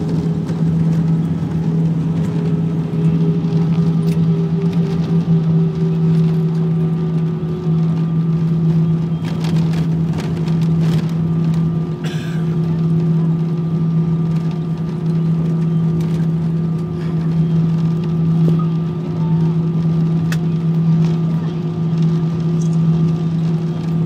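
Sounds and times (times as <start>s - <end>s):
jet engines inside cabin: 0.0s - 24.0s.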